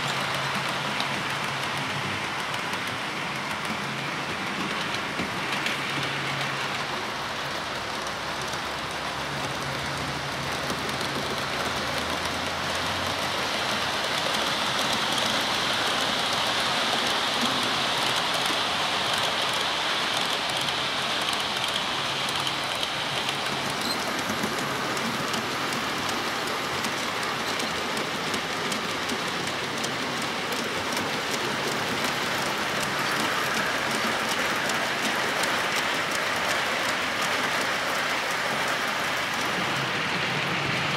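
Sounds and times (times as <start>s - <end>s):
model train wheels rattling on rail: 0.0s - 40.9s.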